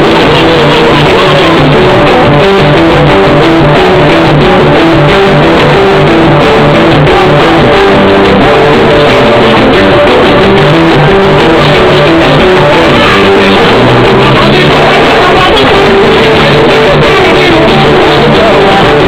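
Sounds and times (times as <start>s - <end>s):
loud distorted music with guitar: 0.0s - 19.0s.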